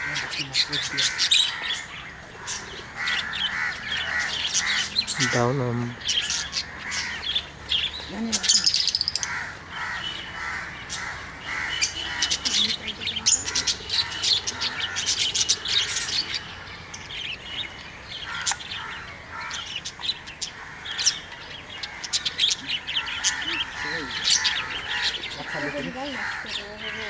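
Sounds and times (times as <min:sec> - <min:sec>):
parrots chattering and chirping: 0:00.0 - 0:27.0.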